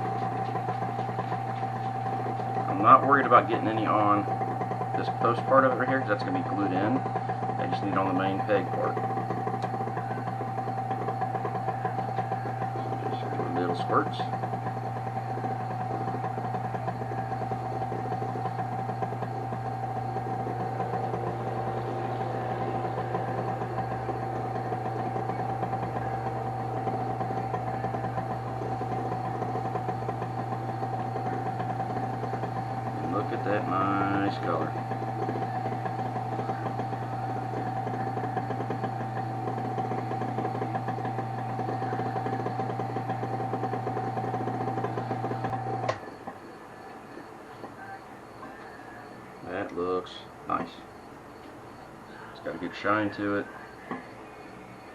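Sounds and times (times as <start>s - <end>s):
wood lathe motor hum: 0.0s - 54.9s.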